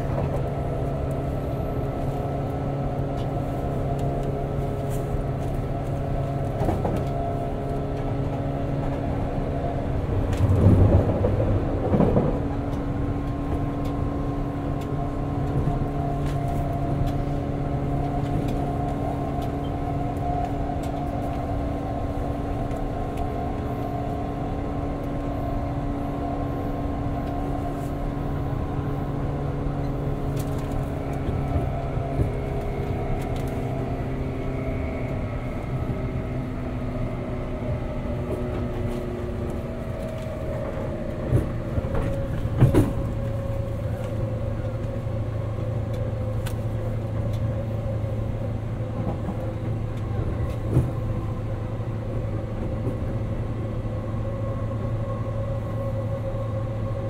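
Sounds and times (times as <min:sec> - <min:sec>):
train interior rumbling hum: 0:00.0 - 0:57.0
low rumble: 0:09.5 - 0:57.0.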